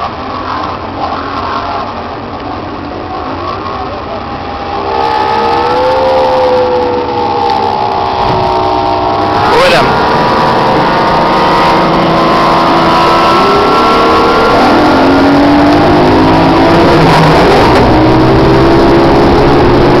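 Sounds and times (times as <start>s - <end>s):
motorboat engine running: 0.0s - 20.0s
steady rushing noise: 0.0s - 20.0s.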